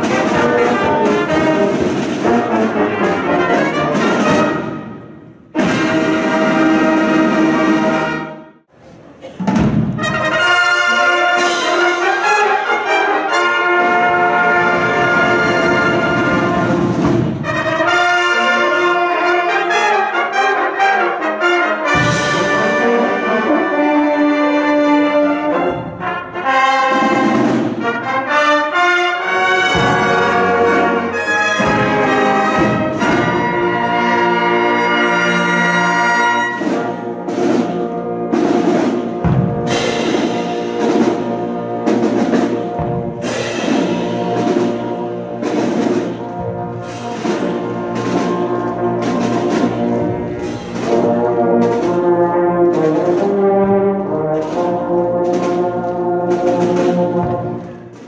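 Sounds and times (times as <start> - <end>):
brass band with drums playing: 0.0 - 8.6, 9.3 - 58.0.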